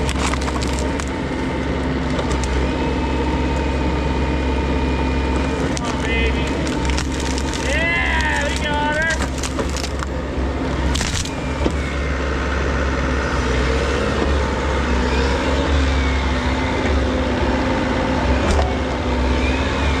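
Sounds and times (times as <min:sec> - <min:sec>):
diesel engine running under load: 0:00.0 - 0:20.0
hydraulic whines: 0:00.0 - 0:20.0.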